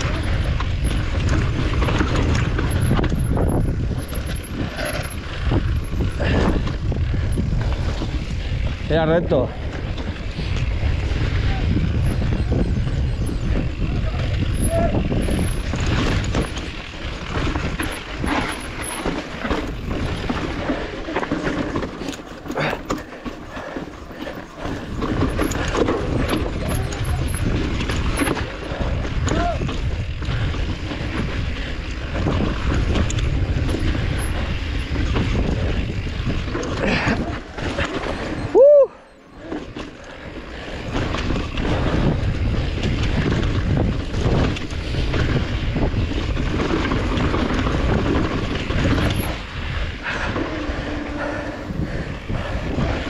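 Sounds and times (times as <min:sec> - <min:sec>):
bike rattling and clicking: 0:00.0 - 0:53.0
wind rumble on microphone: 0:00.0 - 0:53.0.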